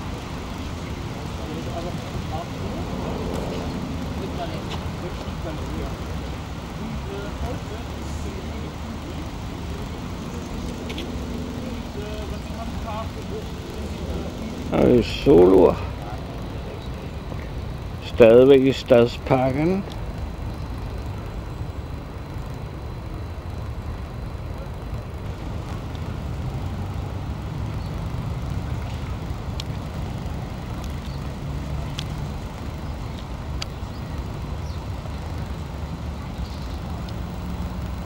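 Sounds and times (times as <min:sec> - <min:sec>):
distant road traffic rumble: 0:00.0 - 0:38.0.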